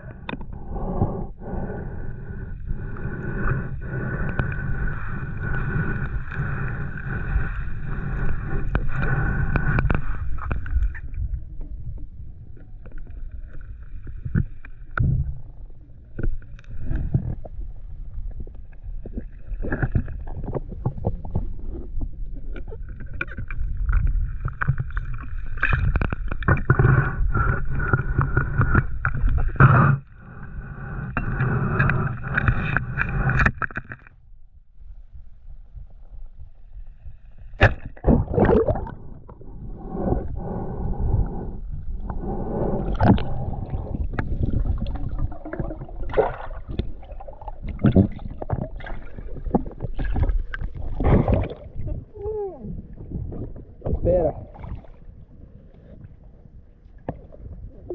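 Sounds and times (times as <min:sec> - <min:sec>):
underwater rumble of moving water: 0:00.0 - 0:57.9.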